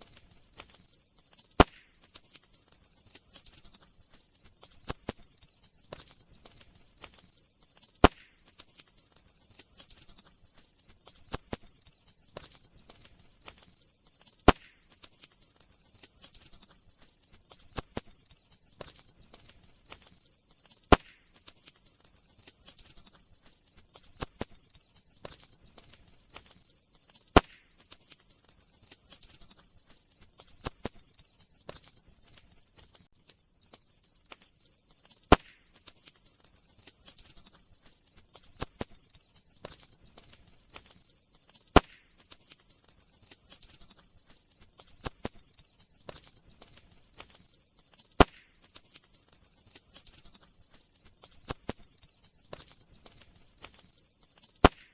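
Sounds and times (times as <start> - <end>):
campfire crackling and popping: 0.0 - 54.9
faint steady hiss: 0.0 - 54.9.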